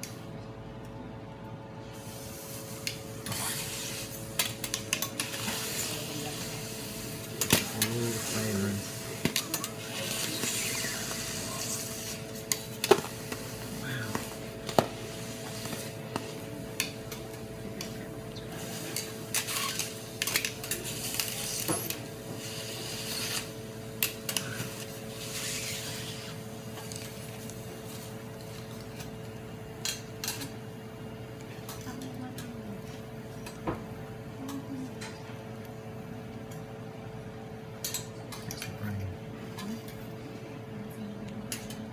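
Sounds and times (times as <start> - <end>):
steady hum: 0.0 - 41.9.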